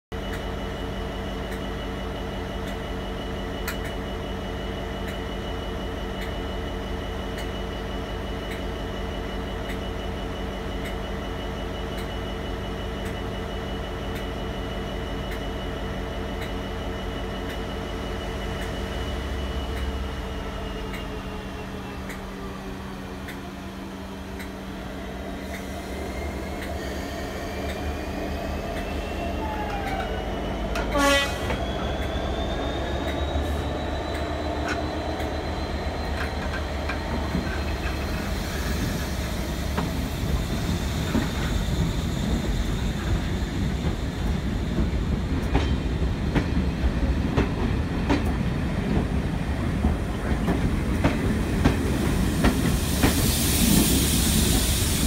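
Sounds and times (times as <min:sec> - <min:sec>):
diesel locomotive engine idling: 0:00.2 - 0:55.0.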